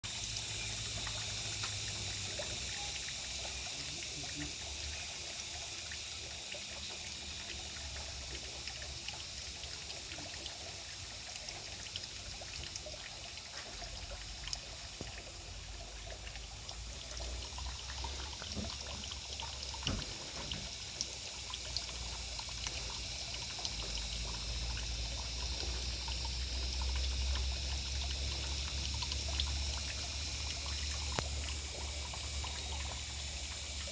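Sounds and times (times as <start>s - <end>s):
water trickling and pouring: 0.0s - 33.9s.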